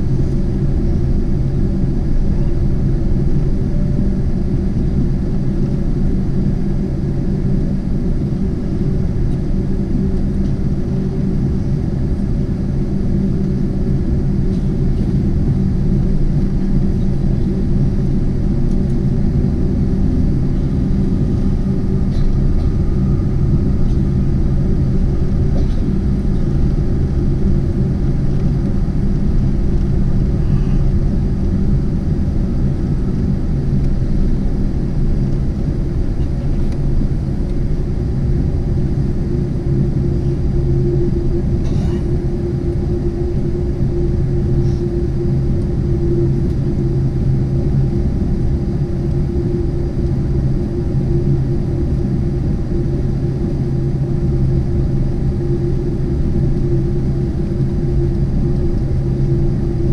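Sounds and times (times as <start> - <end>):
airplane cabin rumble and engine hum: 0.0 - 59.9.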